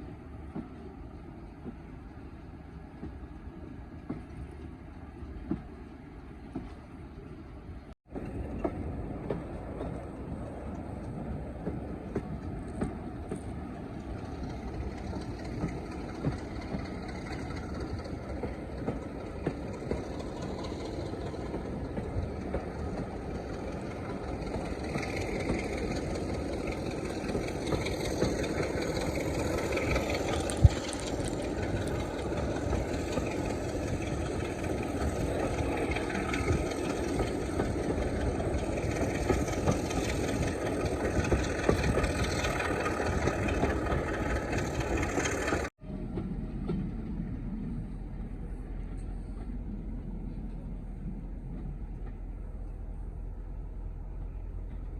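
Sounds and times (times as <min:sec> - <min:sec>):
diesel locomotive running: 0:00.0 - 0:54.9.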